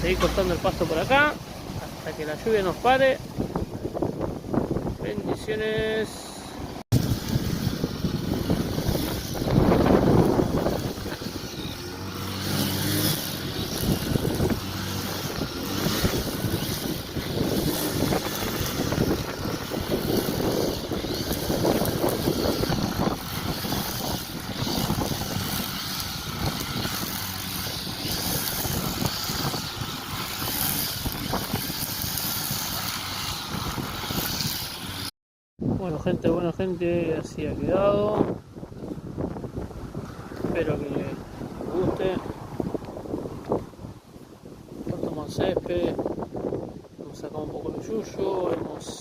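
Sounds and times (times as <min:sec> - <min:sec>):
lawn mower cutting grass: 0:00.0 - 0:35.1, 0:37.7 - 0:49.0.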